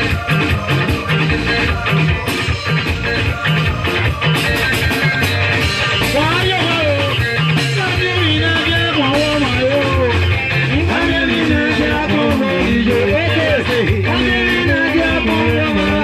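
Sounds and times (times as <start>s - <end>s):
drum and bass beat: 0.0s - 16.0s
guitar: 0.0s - 16.0s.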